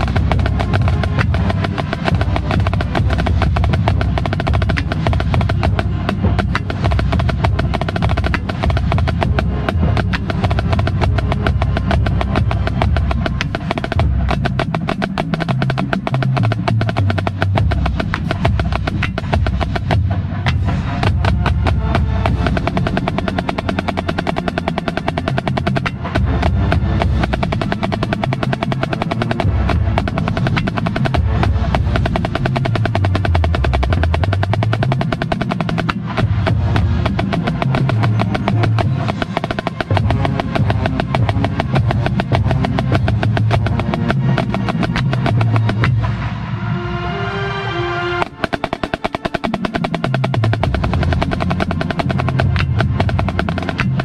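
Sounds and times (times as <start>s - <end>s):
marching snare drums: 0.0s - 46.2s, 48.2s - 54.0s
marching band playing: 0.0s - 47.2s, 47.9s - 54.0s.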